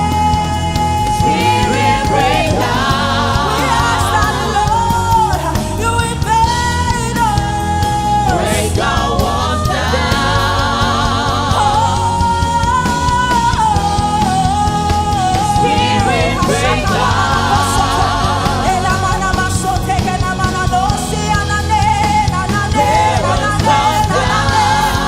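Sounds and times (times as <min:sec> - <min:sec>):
band accompaniment with bass: 0:00.0 - 0:25.0.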